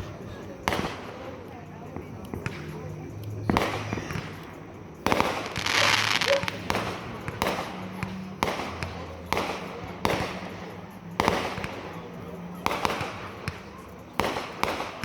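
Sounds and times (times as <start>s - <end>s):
fireworks crackling hiss: 0.0s - 15.0s
fireworks bangs: 0.6s - 15.0s.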